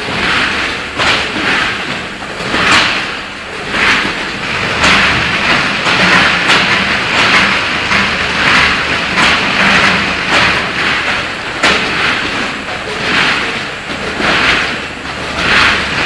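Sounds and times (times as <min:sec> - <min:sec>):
machine hiss and clatter: 0:00.0 - 0:16.0
steady machine hum: 0:00.0 - 0:16.0.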